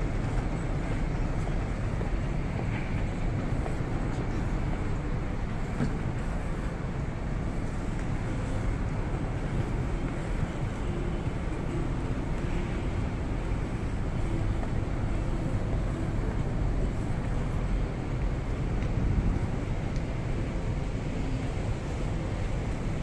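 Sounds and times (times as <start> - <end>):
urban background noise: 0.0 - 23.0.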